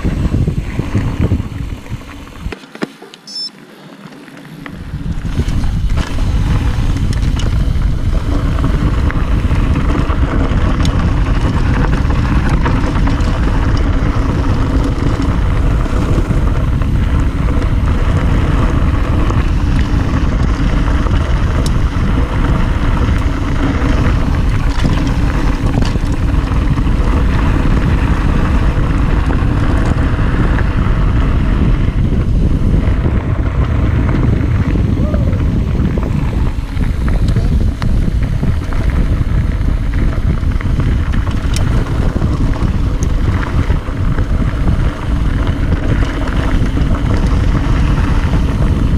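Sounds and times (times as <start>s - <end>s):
wind buffeting microphone: 0.0s - 2.6s, 4.5s - 48.9s
bike clicks and rattles: 0.0s - 48.9s
bike tyres rumbling over dirt: 0.0s - 48.9s.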